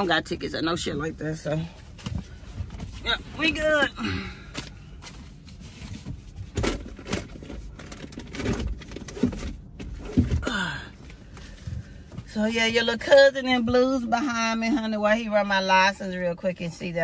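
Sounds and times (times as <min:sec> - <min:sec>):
low rumble in car cabin: 0:00.0 - 0:17.0.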